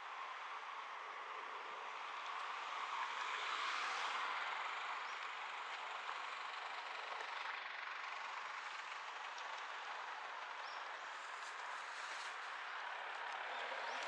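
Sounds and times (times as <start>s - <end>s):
street background noise: 0.0s - 14.0s.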